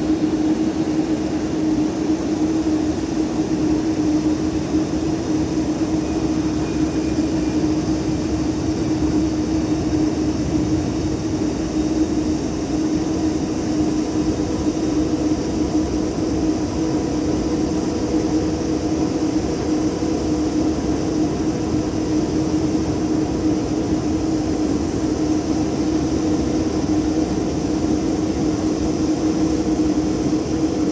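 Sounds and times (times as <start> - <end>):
jet engine drone: 0.0 - 30.9.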